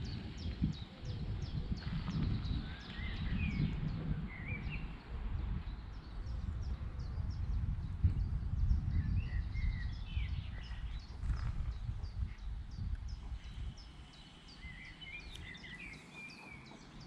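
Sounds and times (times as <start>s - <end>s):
small birds chirping: 0.0s - 17.0s
wind rumbling on microphone: 0.0s - 17.0s.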